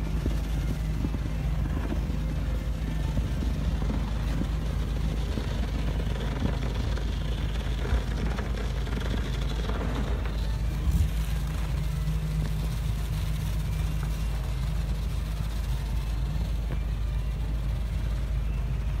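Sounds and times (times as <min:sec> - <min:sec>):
insulation blowing machine drone: 0:00.0 - 0:19.0.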